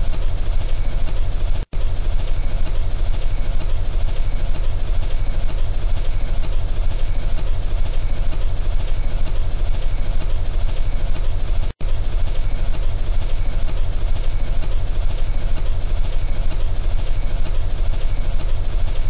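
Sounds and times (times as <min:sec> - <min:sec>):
mechanical droning with low rumble: 0:00.0 - 0:19.0.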